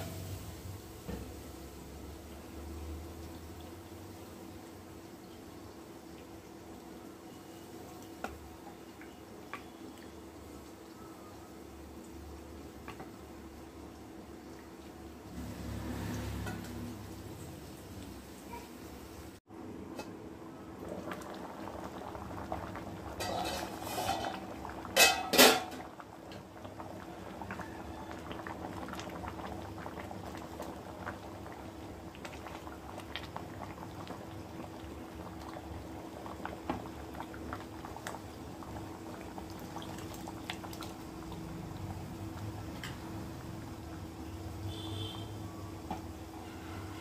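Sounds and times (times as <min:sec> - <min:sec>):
stew bubbling in a pot: 0:00.0 - 0:19.4, 0:20.3 - 0:47.0.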